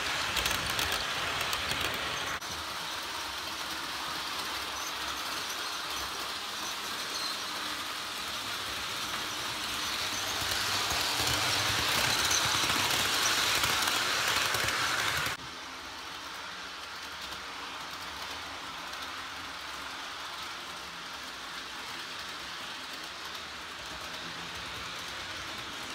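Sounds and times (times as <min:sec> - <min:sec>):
model train rolling whir: 0:00.0 - 0:25.9.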